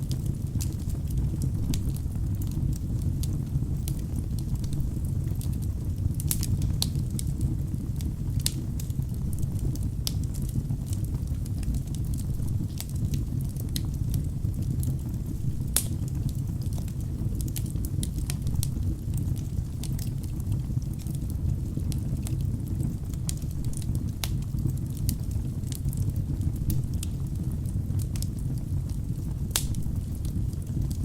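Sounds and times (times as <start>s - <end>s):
fire rumbling: 0.0s - 31.0s
logs crackling and popping: 0.0s - 31.0s.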